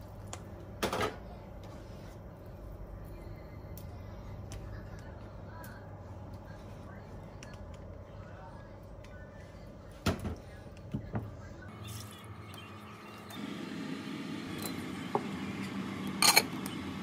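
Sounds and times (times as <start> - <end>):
cooking hum and hiss: 0.0 - 17.0.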